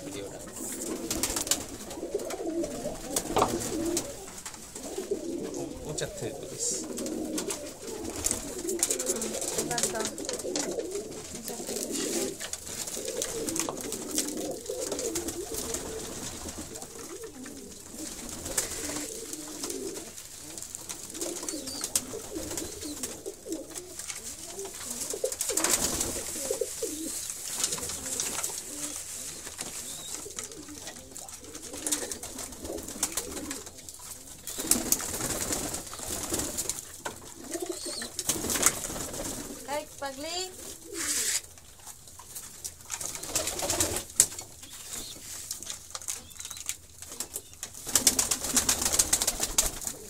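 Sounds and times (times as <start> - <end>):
pigeons cooing: 0.0 - 50.0
pigeon wing flutters: 0.6 - 5.6, 6.8 - 39.7, 40.6 - 41.5, 42.9 - 50.0.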